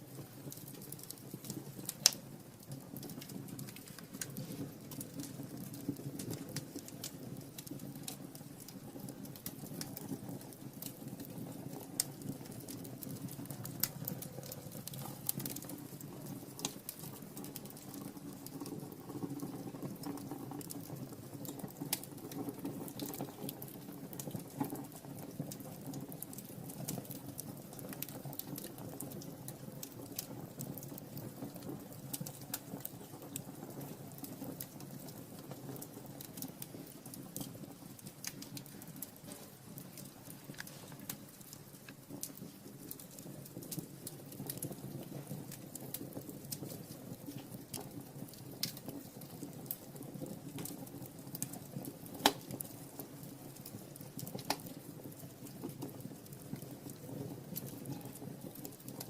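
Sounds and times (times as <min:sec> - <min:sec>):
low rush of flame: 0:00.0 - 0:59.0
wood fire crackling and popping: 0:00.0 - 0:59.0.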